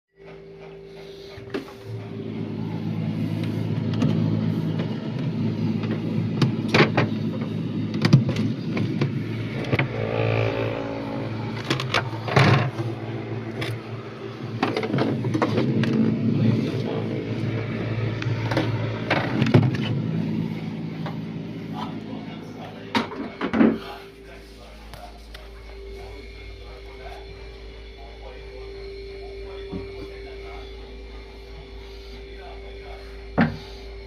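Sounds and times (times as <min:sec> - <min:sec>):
steady low hum: 0:00.2 - 0:34.0.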